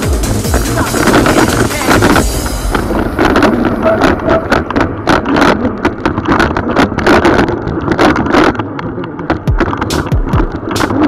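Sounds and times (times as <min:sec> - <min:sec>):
bike knocking and clattering: 0:00.0 - 0:11.0
tyres rumbling on dirt: 0:00.0 - 0:11.0
wind on microphone: 0:00.8 - 0:11.0.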